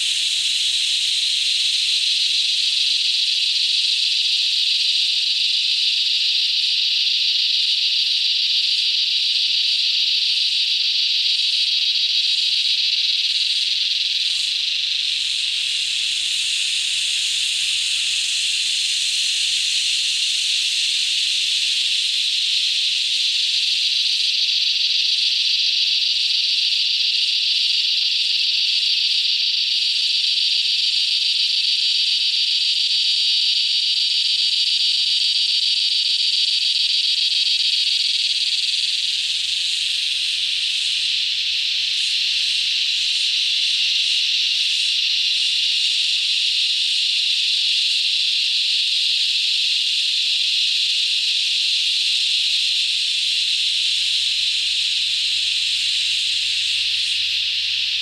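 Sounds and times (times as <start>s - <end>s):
cicadas chorus: 0.0s - 58.0s.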